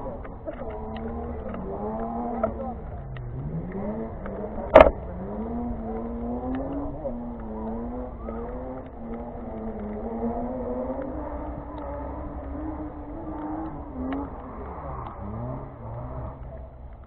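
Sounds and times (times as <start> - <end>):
go-kart engine accelerating: 0.0 - 17.0.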